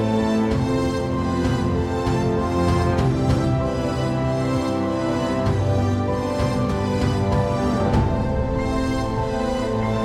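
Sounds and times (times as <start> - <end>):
music with held chords and soft beat: 0.0 - 10.0.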